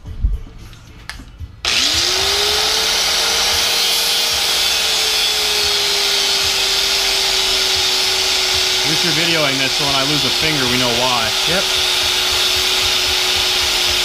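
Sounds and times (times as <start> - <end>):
rotary tool whining: 1.6 - 14.0.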